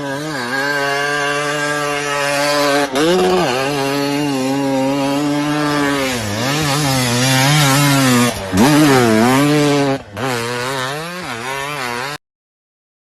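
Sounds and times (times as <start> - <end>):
dirt bike engine revving: 0.0 - 12.2.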